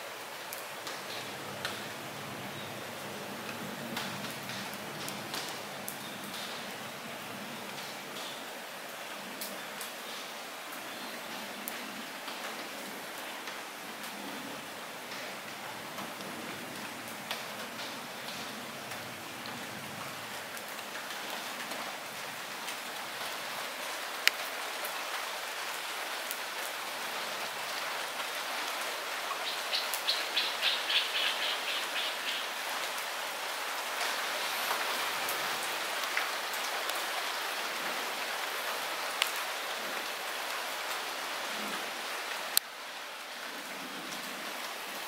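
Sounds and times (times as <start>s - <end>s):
light rain falling: 0.0s - 45.0s.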